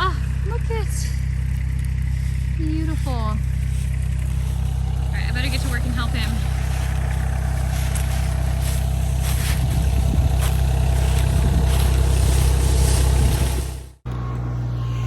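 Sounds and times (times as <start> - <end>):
tractor engine running: 0.0 - 15.0
dry stalks cracking: 1.2 - 13.9.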